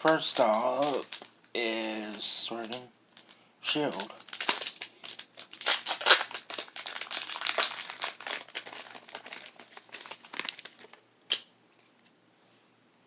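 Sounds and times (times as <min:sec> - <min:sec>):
foil wrapper crinkling: 0:00.0 - 0:11.1.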